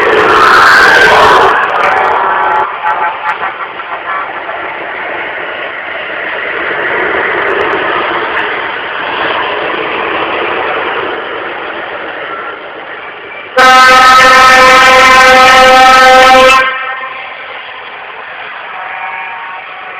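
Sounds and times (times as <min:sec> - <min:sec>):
truck engine: 0:00.0 - 0:19.9.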